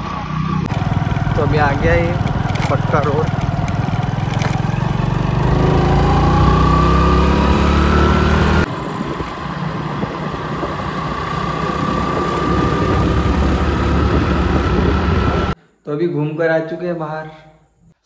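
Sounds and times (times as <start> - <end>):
motorcycle engine accelerating: 0.0 - 15.6.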